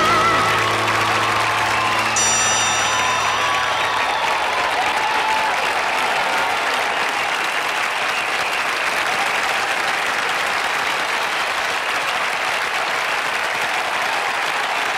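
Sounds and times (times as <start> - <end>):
large crowd applauding: 0.0 - 14.9.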